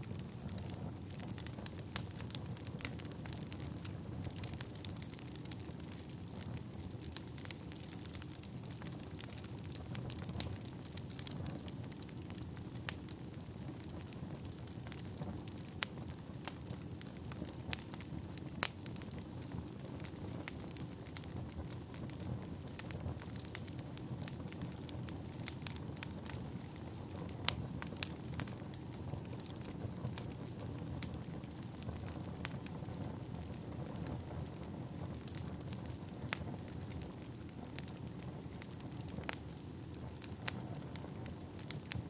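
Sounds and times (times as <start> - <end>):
firewood crackling and popping: 0.0 - 42.0
low rush of flame: 0.0 - 42.0.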